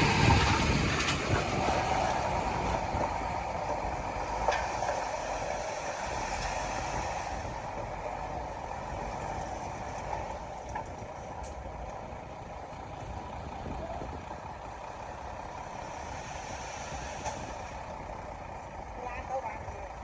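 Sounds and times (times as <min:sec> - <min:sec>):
diesel machinery engine rumble: 0:00.0 - 0:20.0.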